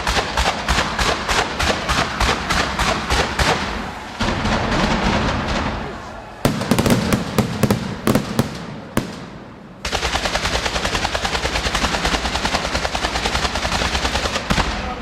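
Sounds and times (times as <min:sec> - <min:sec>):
fireworks bangs: 0:00.0 - 0:15.0
rapid firework crackling: 0:00.0 - 0:15.0.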